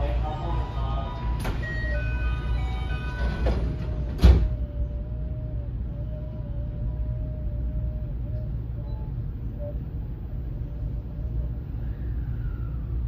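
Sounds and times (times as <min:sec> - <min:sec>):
train inverter tones: 0:00.0 - 0:13.0
train running gear rumble: 0:00.0 - 0:13.0.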